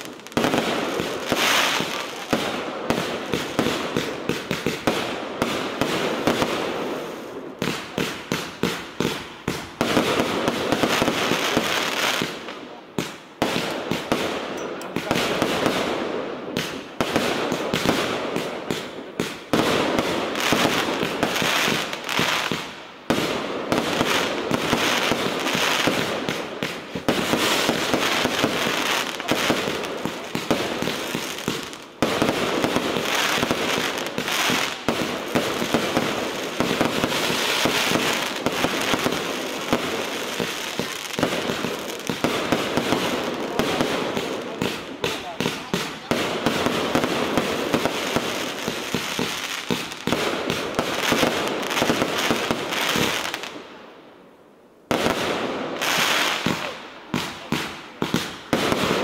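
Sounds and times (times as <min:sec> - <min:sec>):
fireworks shots and bursts: 0:00.0 - 0:59.0.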